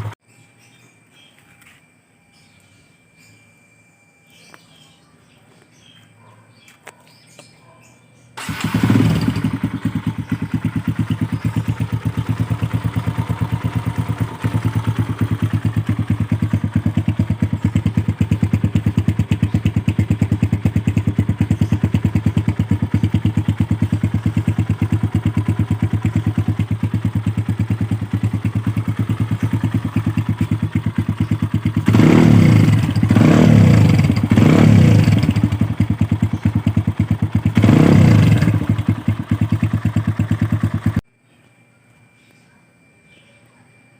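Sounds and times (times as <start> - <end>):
motorcycle engine idling and revving: 0.0 - 0.8, 5.6 - 41.1.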